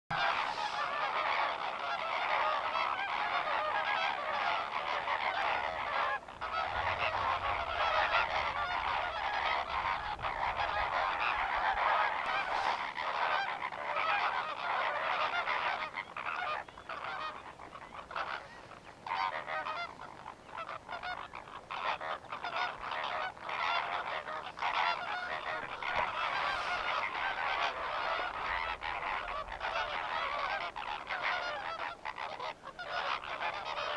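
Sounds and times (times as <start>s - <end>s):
flock of flamingos honking: 0.1s - 33.9s.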